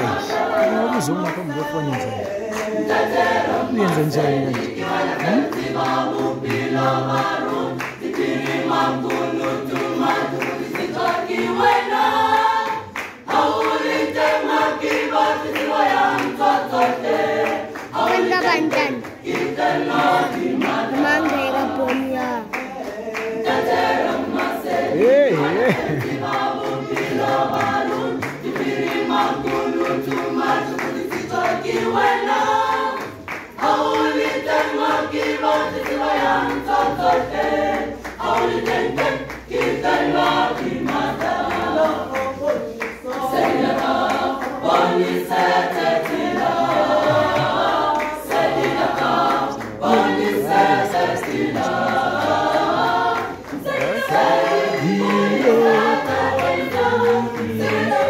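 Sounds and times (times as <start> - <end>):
choir singing unaccompanied: 0.0 - 58.0.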